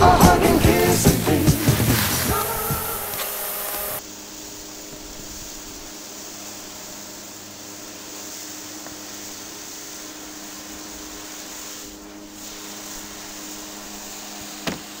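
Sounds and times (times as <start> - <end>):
machine-like hiss: 0.0 - 15.0.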